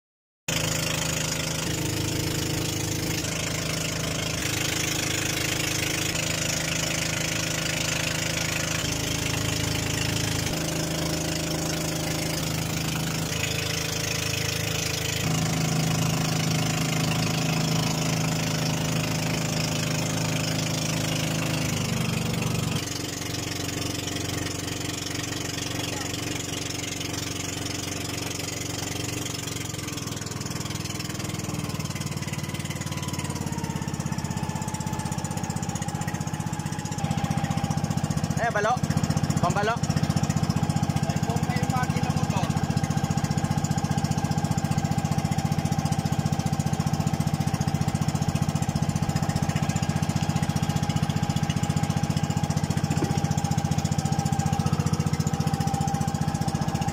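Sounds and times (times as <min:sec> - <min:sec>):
boat engine running: 0:00.5 - 0:56.9
water rushing along hull: 0:00.5 - 0:56.9.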